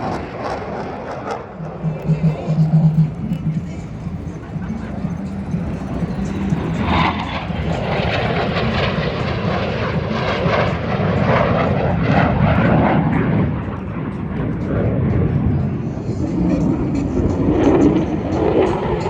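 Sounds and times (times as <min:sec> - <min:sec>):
airplane flying past: 0:00.0 - 0:19.0.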